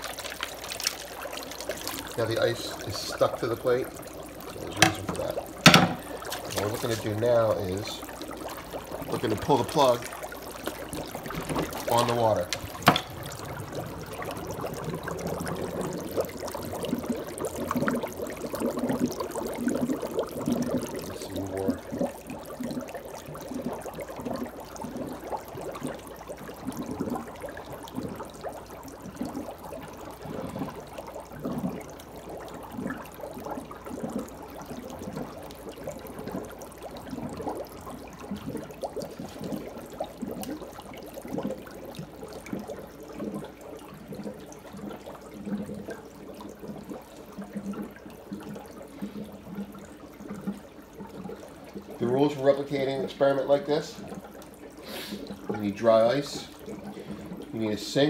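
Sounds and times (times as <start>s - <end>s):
sink drain gurgling: 0.0s - 58.0s.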